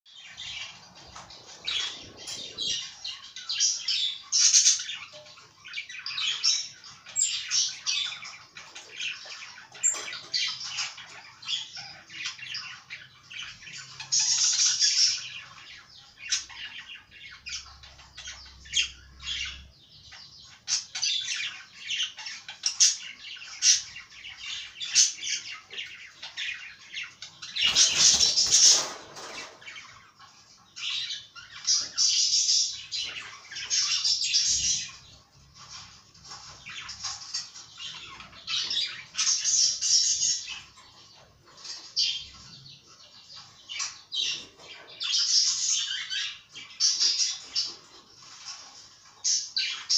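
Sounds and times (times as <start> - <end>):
budgerigars chattering and warbling: 0.1 - 49.9.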